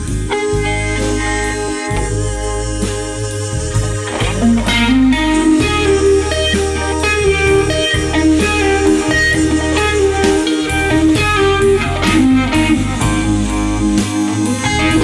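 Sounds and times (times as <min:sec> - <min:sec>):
bass notes: 0:00.0 - 0:15.0
electric guitar melody: 0:00.0 - 0:15.0.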